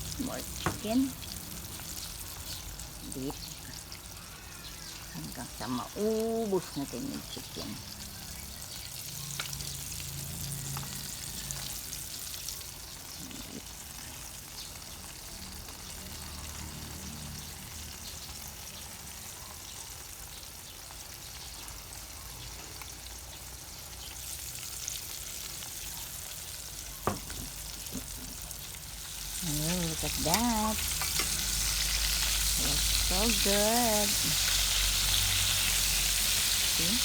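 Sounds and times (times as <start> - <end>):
chicken sizzling in frying oil: 0.0 - 37.0.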